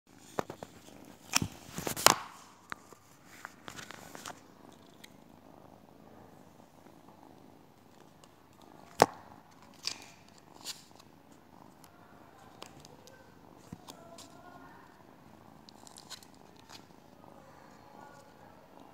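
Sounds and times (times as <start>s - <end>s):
cat purring: 0.1s - 18.9s.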